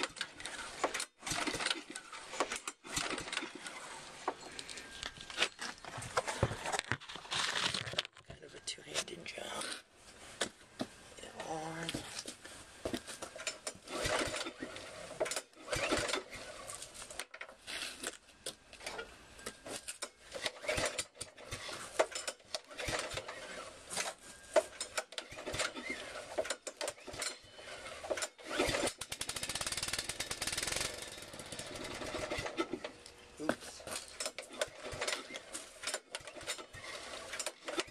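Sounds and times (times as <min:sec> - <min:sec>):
small engine cranking and sputtering: 0:00.0 - 0:09.9, 0:13.0 - 0:37.9.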